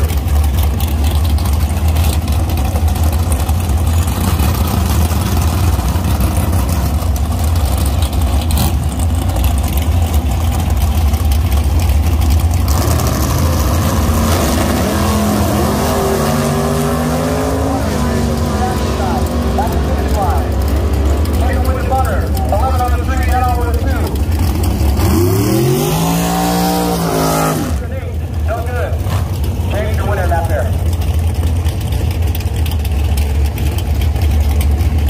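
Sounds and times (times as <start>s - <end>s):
engine accelerating: 0.0s - 35.0s
vehicle engine rumbling: 0.0s - 35.0s.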